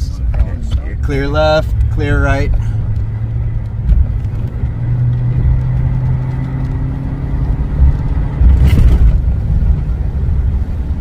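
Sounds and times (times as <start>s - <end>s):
car engine humming: 0.0s - 11.0s
road rumble: 0.0s - 11.0s.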